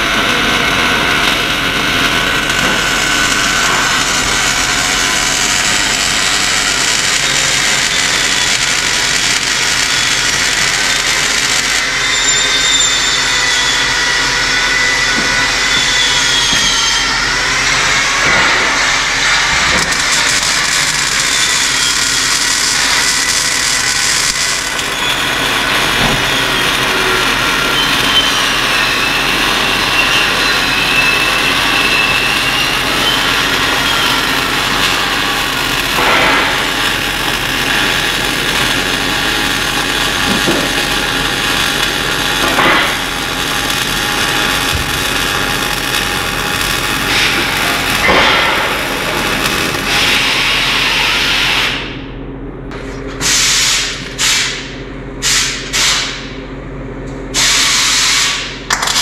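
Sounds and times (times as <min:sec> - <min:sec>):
power tool running: 0:00.0 - 0:52.0.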